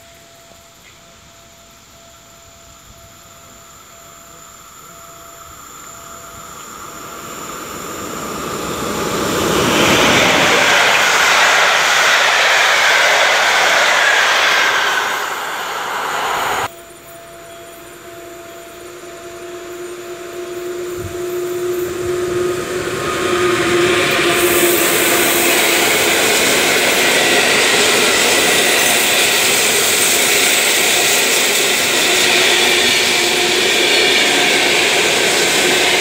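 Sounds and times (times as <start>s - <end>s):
train passing at speed: 2.6s - 36.0s.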